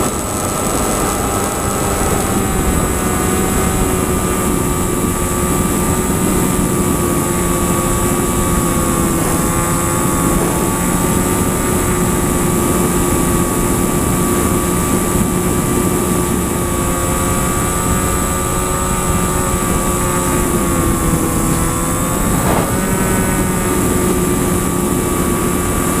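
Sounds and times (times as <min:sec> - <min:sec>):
propeller airplane engine droning: 0:00.0 - 0:26.0.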